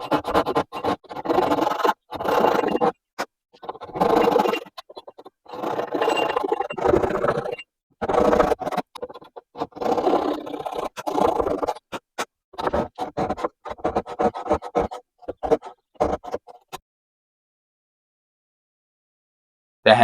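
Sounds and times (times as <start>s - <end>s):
handsaw rasping strokes: 0.0s - 16.8s.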